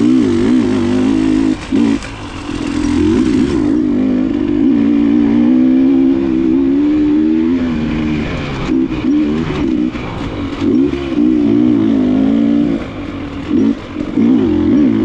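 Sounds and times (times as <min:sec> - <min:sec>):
dirt bike engine running: 0:00.0 - 0:15.0
dirt bike throttle blips: 0:00.0 - 0:15.0.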